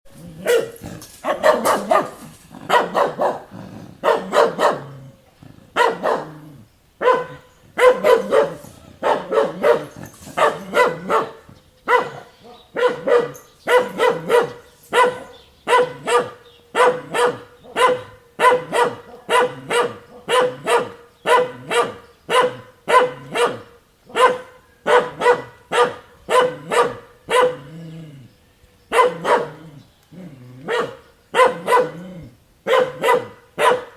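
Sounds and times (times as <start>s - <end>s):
dog barking: 0.4s - 5.0s, 5.8s - 6.4s, 7.0s - 27.7s, 28.9s - 29.6s, 30.6s - 32.0s, 32.6s - 33.9s.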